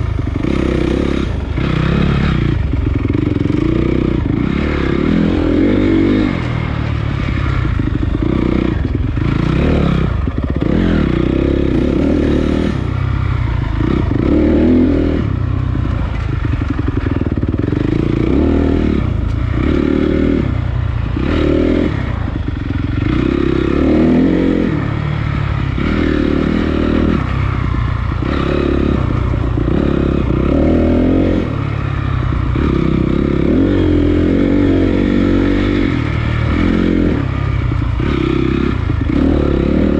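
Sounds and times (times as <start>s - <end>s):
clatter: 0.0s - 39.9s
dirt bike engine revving: 0.0s - 39.9s.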